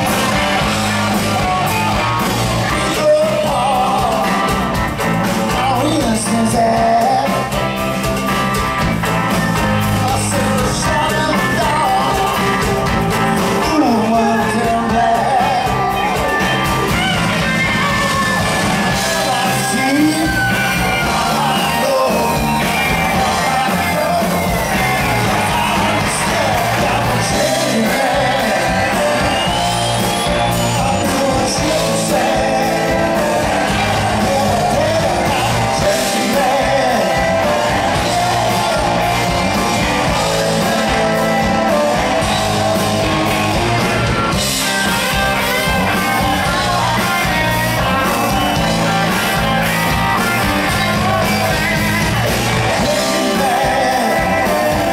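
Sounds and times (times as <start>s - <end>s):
male lead vocal: 0.0s - 8.2s, 9.5s - 54.9s
live rock band playing: 0.0s - 54.9s.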